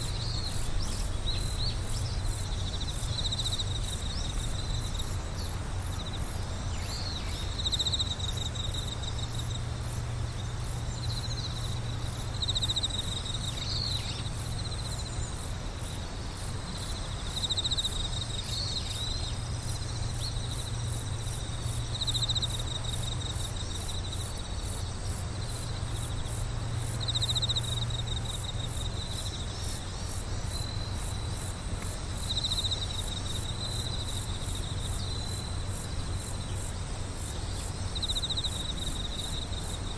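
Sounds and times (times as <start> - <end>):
insects trilling: 0.0 - 39.9
low pulsed insect chirps: 0.0 - 39.9.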